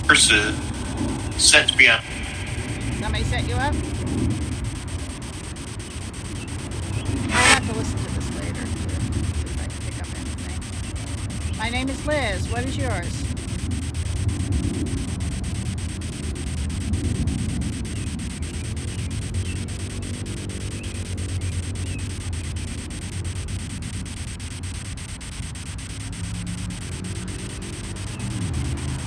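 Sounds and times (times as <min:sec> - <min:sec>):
fluttering white-noise static: 0:00.0 - 0:29.0
low rumble: 0:00.5 - 0:28.8.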